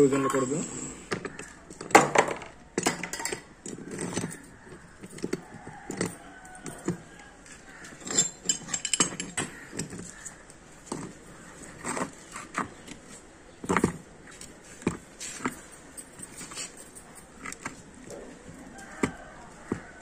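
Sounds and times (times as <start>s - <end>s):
metallic clinks and scrapes: 2.8s - 20.0s.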